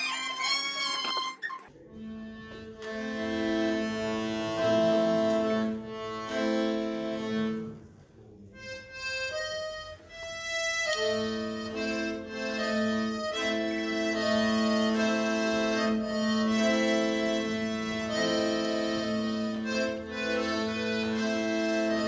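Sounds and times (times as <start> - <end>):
accordion playing chords: 0.0 - 22.0.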